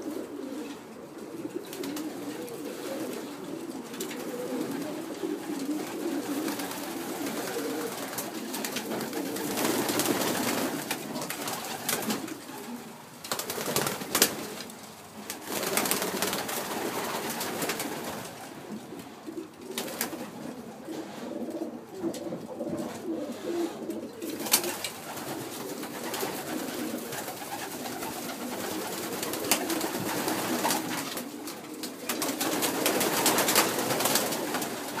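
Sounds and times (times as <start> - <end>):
pigeons cooing: 0.0 - 35.0.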